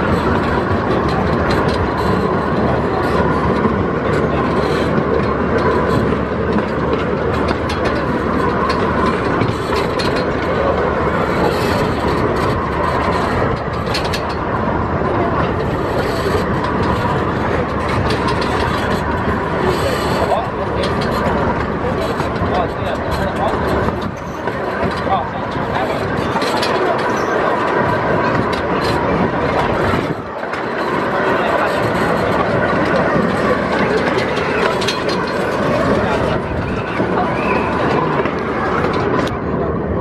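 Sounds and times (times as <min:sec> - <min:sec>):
train rumbling on track: 0:00.0 - 0:40.0
wheels clicking over rail joints: 0:00.0 - 0:40.0.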